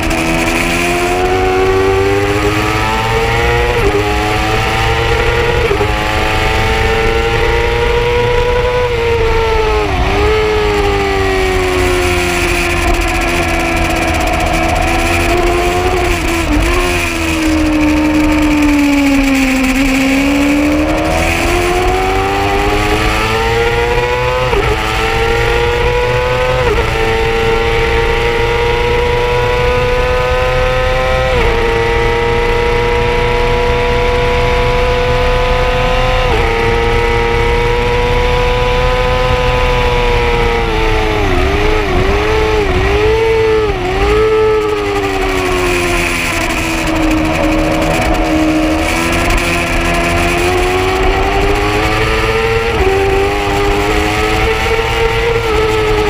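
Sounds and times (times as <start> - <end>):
motorcycle engine revving high: 0.0 - 56.0.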